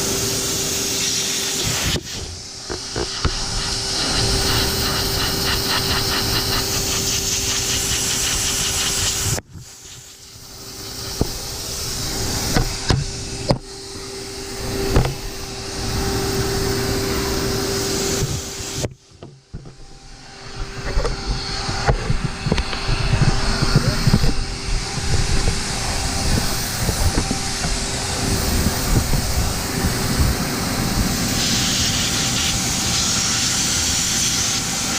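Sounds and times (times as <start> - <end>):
vacuum blower motor whine: 0.0 - 34.9.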